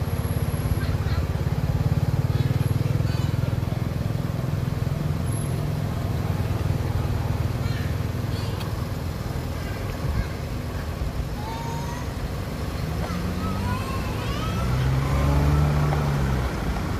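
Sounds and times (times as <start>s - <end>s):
vehicle engine rumble: 0.0s - 16.9s.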